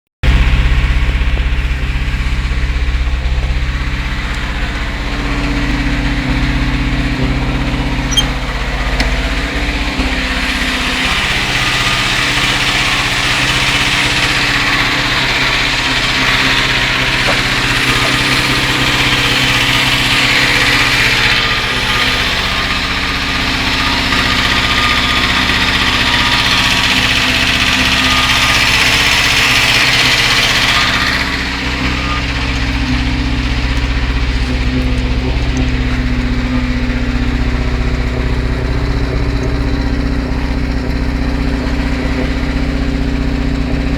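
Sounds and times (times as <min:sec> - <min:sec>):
engine running with knock: 0:00.2 - 0:43.9.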